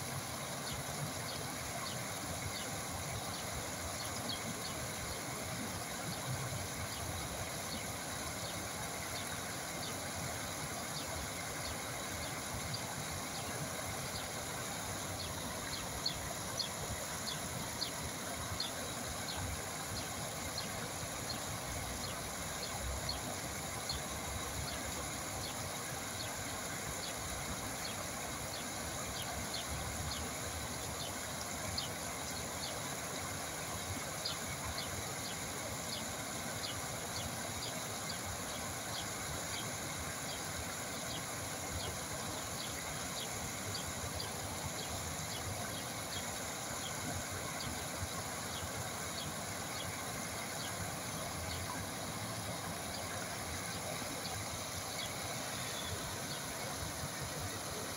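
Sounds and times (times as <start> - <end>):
water flowing: 0.0 - 57.9.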